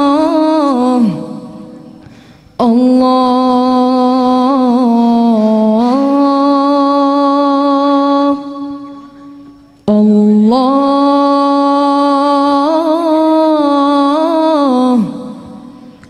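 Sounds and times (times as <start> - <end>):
solo voice singing held notes: 0.0 - 16.0.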